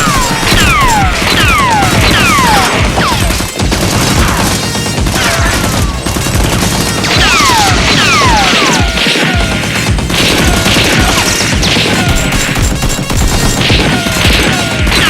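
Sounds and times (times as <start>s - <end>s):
background music: 0.0s - 15.0s
rapid gunfire: 0.0s - 15.0s.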